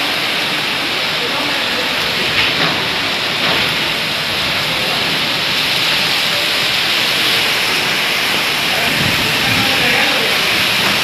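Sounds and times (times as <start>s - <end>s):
heavy rain pouring on concrete: 0.0s - 11.0s.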